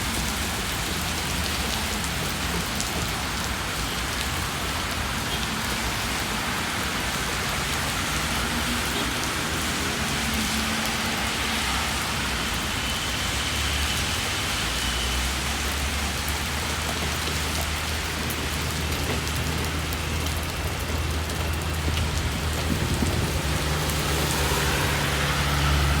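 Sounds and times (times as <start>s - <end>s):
rain pattering on surfaces: 0.0s - 26.0s.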